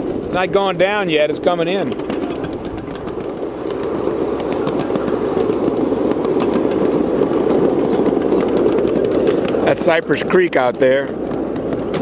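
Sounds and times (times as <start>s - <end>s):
ride-on train rumbling on track: 0.0s - 12.0s
wheels clicking over rail joints: 0.0s - 12.0s.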